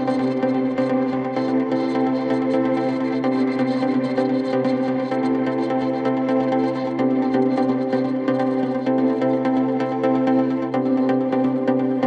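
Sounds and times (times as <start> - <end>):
soft ambient instrumental music: 0.0 - 12.0.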